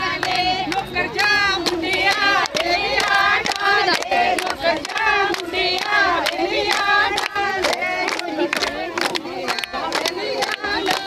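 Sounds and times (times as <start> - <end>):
rhythmic hand-clapping: 0.0 - 11.0
women singing in high voices: 0.0 - 11.0.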